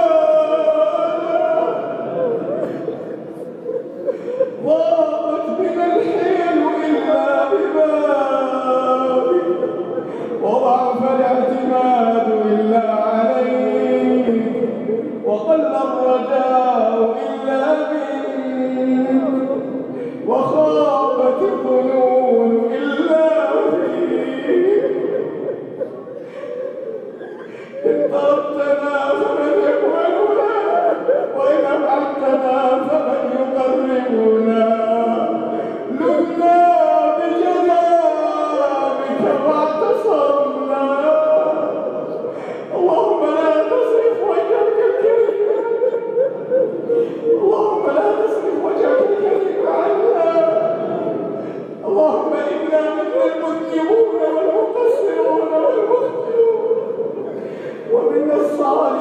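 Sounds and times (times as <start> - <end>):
man chanting melodically: 0.0 - 59.0.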